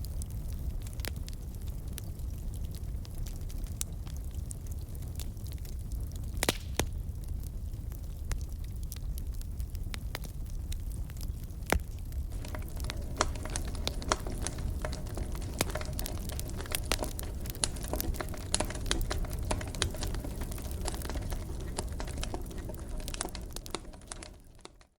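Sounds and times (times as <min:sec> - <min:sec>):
fire crackling in a fireplace: 0:00.0 - 0:25.0.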